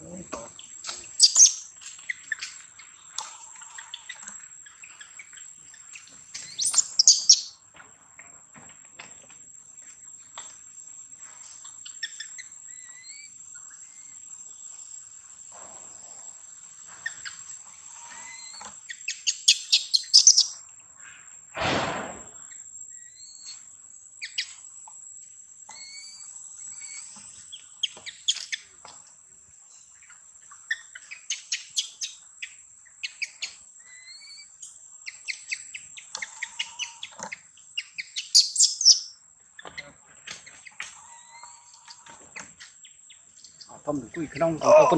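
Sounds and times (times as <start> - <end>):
forest birds chirping: 0.0 - 21.6, 22.2 - 44.9.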